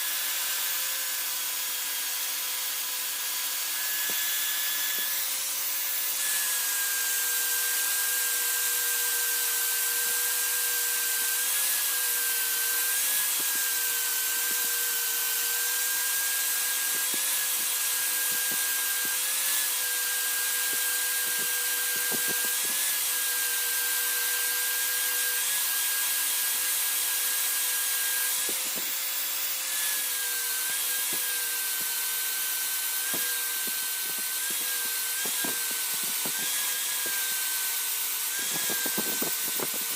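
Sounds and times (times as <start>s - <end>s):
electric power tool running: 0.0s - 39.9s.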